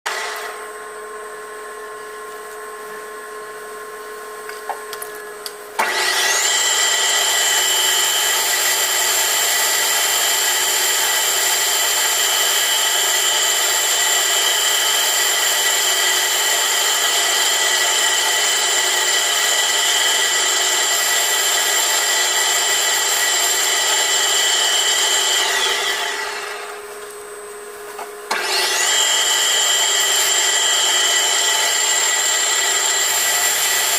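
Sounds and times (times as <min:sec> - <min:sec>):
metalworking machine whining: 0:00.1 - 0:27.5, 0:28.2 - 0:33.9.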